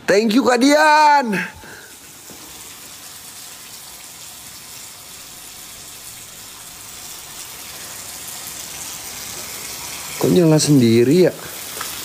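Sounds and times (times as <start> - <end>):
water running: 0.1 - 12.0.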